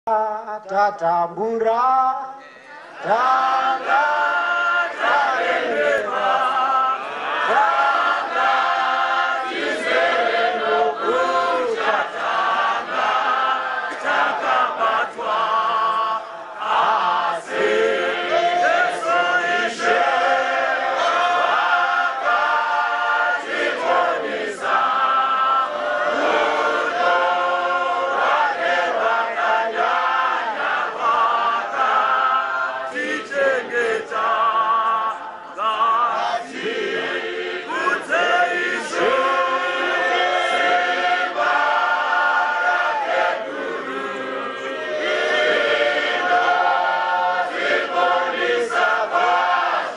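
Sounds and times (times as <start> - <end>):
choir singing a hymn: 3.0 - 49.9.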